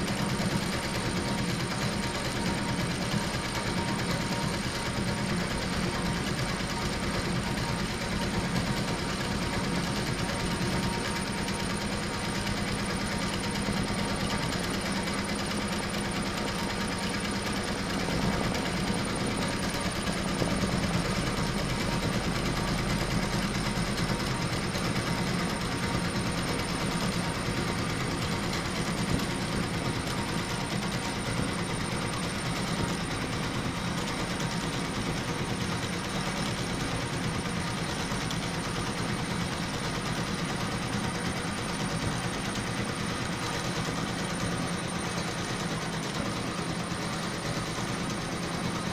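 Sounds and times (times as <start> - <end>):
embroidery machine stitching: 0.1 - 48.8.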